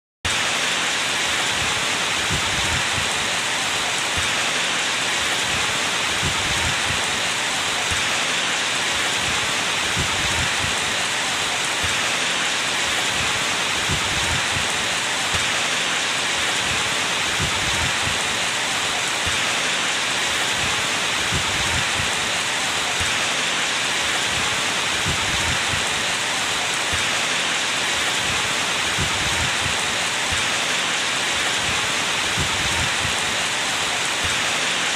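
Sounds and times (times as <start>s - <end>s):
steady rain falling: 0.3s - 34.9s.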